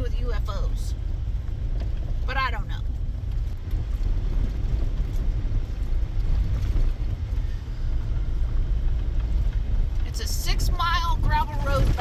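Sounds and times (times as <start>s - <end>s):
vehicle driving on gravel: 0.0s - 12.0s.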